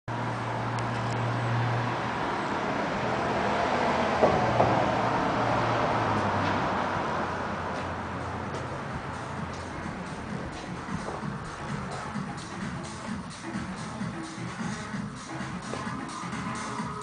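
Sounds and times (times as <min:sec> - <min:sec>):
vehicle engine humming: 0:00.1 - 0:17.0.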